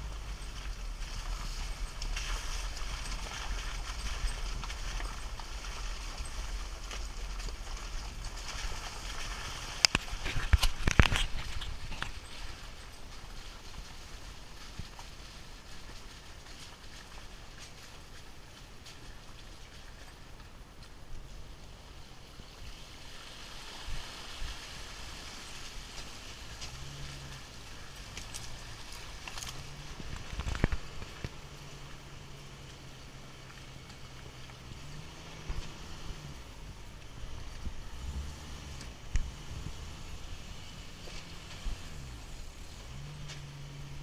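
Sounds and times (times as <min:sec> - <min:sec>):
tyres splashing through water: 0:00.0 - 0:20.8, 0:21.6 - 0:44.0
vehicle engine rumble: 0:00.0 - 0:44.0.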